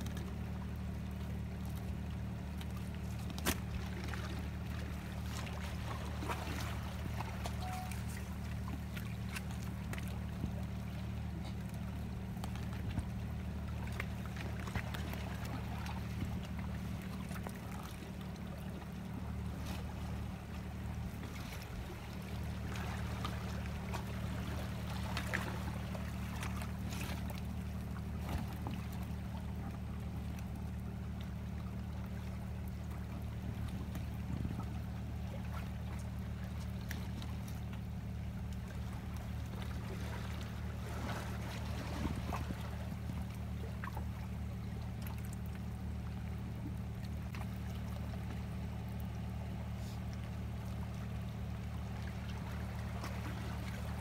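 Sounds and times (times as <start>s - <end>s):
engine idling hum: 0.0s - 54.0s.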